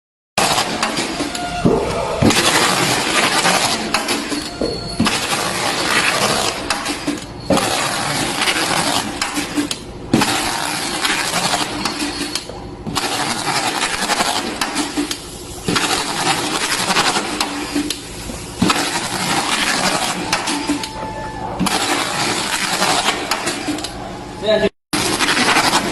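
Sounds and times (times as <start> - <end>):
taping machine rattling: 0.4 - 25.9.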